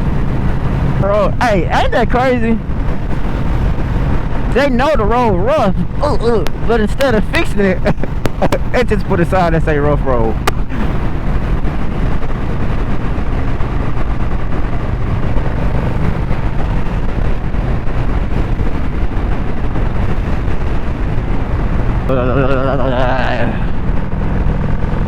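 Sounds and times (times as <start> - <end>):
motorcycle engine running: 0.0 - 25.0
wind rushing over microphone: 0.0 - 25.0.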